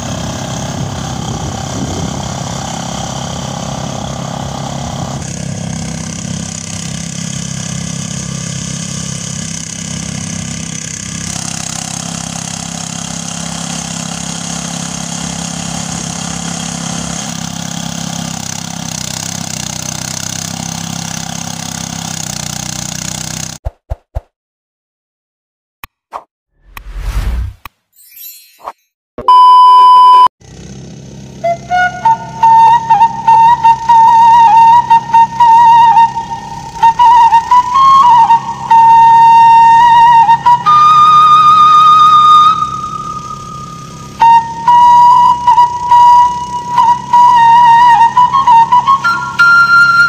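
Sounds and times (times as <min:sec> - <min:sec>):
threshing machine running: 0:00.0 - 0:23.6, 0:30.4 - 0:50.0.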